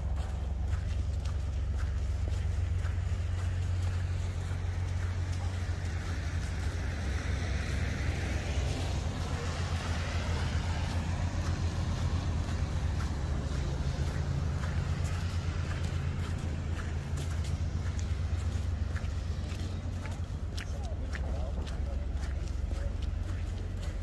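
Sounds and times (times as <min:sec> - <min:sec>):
low engine rumble: 0:00.0 - 0:24.0
vehicle passing: 0:00.0 - 0:24.0.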